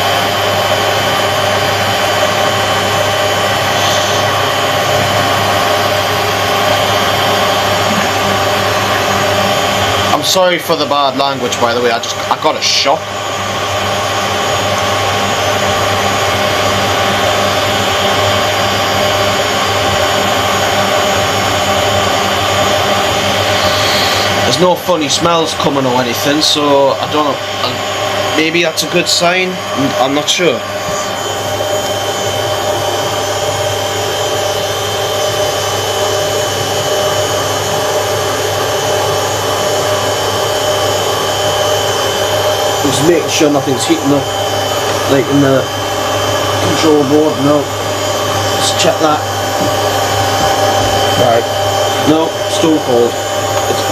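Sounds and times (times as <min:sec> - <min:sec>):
drum whine: 0:00.0 - 0:53.9
washing machine motor hum: 0:00.0 - 0:53.9.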